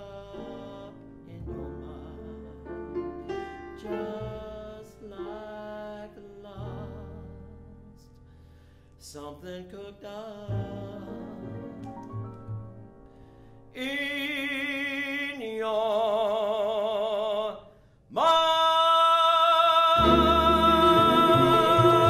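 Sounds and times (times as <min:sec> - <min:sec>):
man singing with vibrato: 0:00.0 - 0:08.1, 0:09.0 - 0:11.9, 0:13.7 - 0:22.0
bass: 0:00.0 - 0:22.0
piano: 0:00.0 - 0:22.0.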